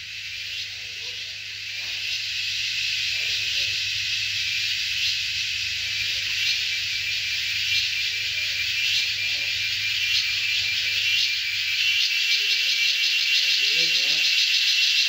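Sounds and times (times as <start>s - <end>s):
insect chorus with high whine: 0.0s - 15.0s.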